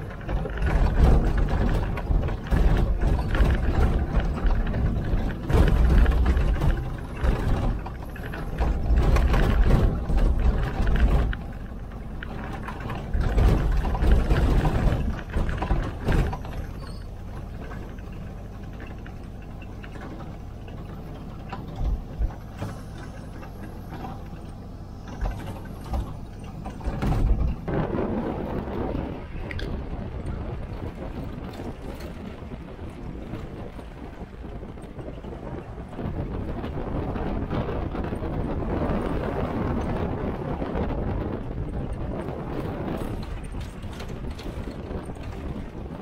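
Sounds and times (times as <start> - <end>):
vehicle engine running: 0.0 - 46.0
wind buffeting microphone: 0.0 - 46.0.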